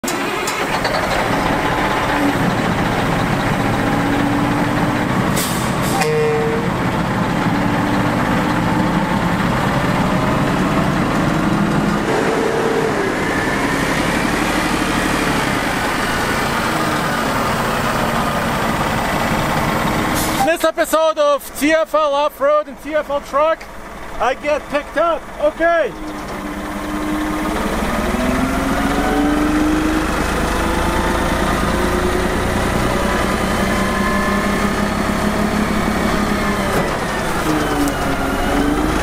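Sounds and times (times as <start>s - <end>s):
diesel truck engine running: 0.0s - 39.0s.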